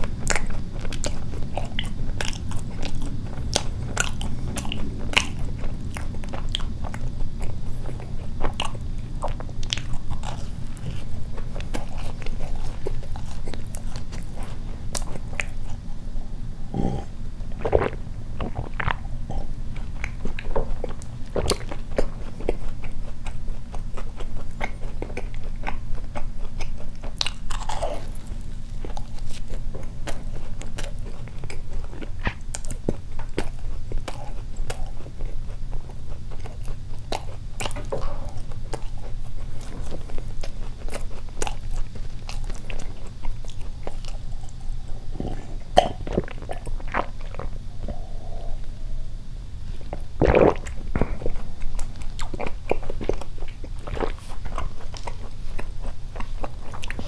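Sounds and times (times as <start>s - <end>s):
wet chewing mouth clicks: 0.0s - 15.9s, 16.7s - 48.7s, 49.9s - 57.0s
steady low rumble: 0.0s - 57.0s.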